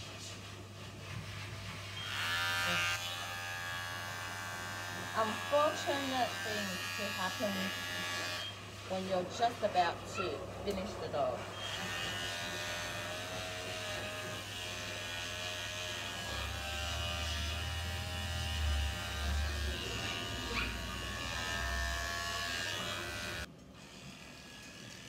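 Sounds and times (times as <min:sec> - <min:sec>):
electric clippers buzzing: 0:01.9 - 0:08.6, 0:11.6 - 0:25.0.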